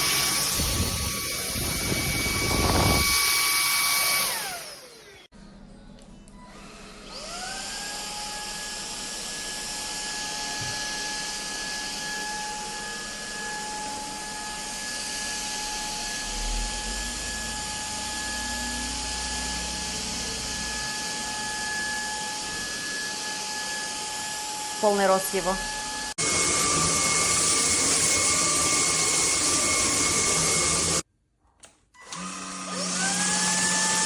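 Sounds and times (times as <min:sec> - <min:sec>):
vacuum motor whine: 0:00.0 - 0:05.3, 0:06.5 - 0:31.0, 0:32.0 - 0:34.0.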